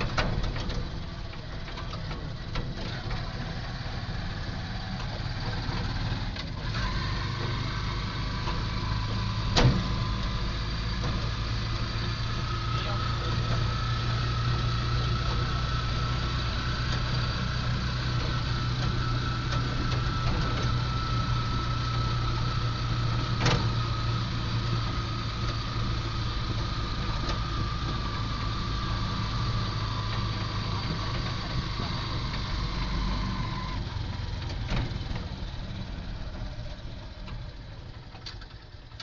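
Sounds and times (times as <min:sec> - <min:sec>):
vehicle engine and road drone: 0:00.0 - 0:39.0.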